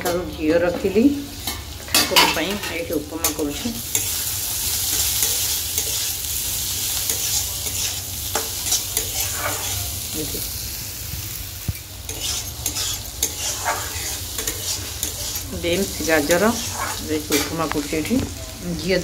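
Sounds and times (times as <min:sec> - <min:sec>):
food sizzling in a pan: 0:00.0 - 0:19.0
spoon stirring and scraping: 0:00.7 - 0:10.2, 0:12.0 - 0:18.2.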